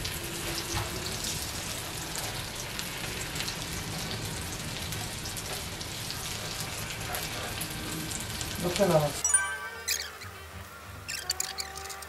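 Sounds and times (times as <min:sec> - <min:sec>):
food frying in oil: 0:00.0 - 0:12.0.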